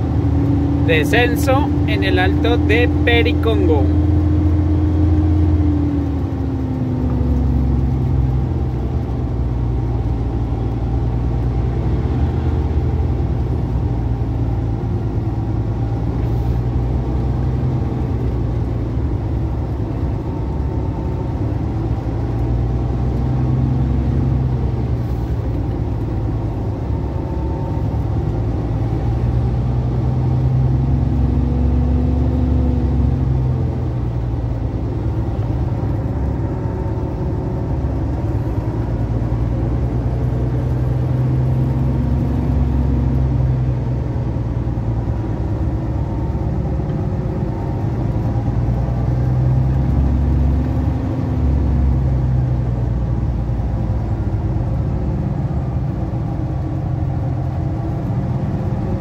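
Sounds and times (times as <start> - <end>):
truck engine from inside cab: 0.0 - 59.0.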